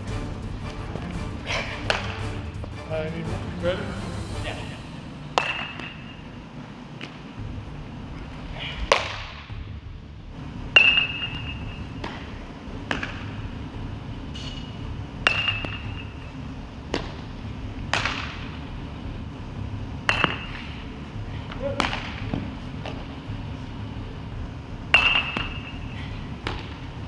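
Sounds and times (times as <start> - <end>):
indoor hall hum: 0.0 - 27.0
baseballs striking gloves and bat: 0.8 - 2.8, 5.2 - 7.4, 8.2 - 19.1, 19.9 - 27.0.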